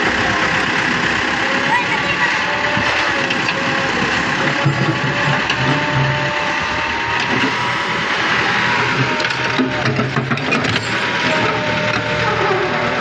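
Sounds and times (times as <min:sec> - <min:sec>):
machinery rattling: 0:00.0 - 0:13.0.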